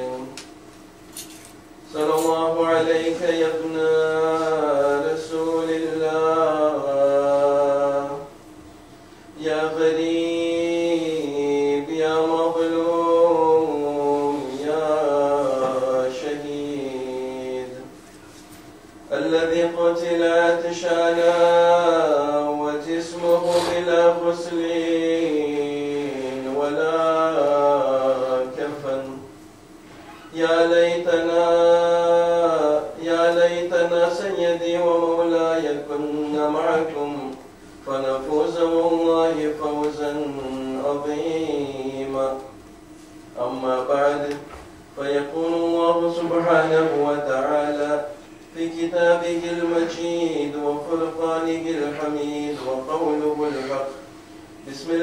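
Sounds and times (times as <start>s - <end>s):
man chanting melodically: 0.0s - 0.4s, 1.9s - 8.3s, 9.4s - 17.9s, 19.1s - 29.3s, 30.2s - 42.5s, 43.4s - 54.0s, 54.6s - 55.0s.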